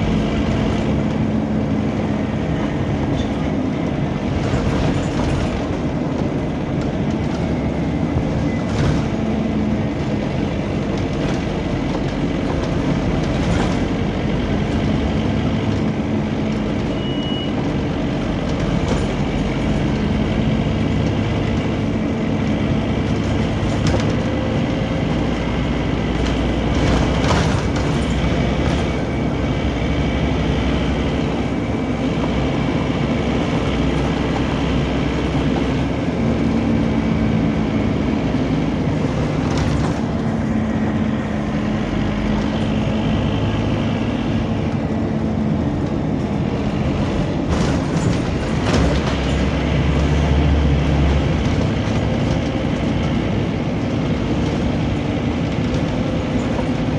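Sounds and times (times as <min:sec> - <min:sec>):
bus body knocks and rattles: 0:00.0 - 0:56.9
bus engine and fan drone: 0:00.0 - 0:56.9
road noise: 0:00.0 - 0:56.9.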